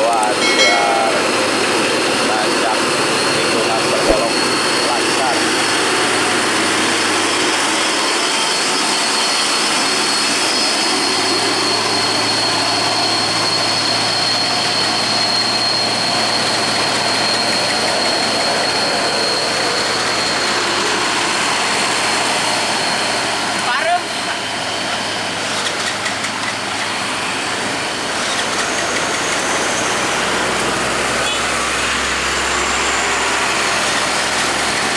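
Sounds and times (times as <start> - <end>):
diesel truck engine drone: 0.0 - 34.9
steady high whine: 0.0 - 34.9.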